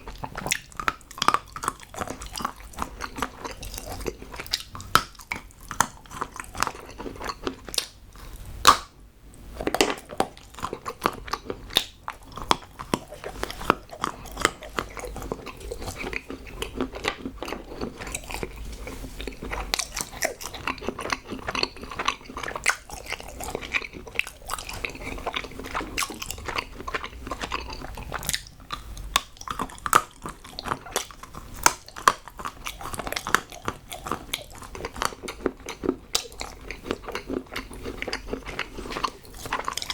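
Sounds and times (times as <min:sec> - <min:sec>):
chocolate snapping and crunching: 0:00.0 - 0:09.0, 0:09.6 - 0:39.9
person chewing: 0:00.0 - 0:39.9.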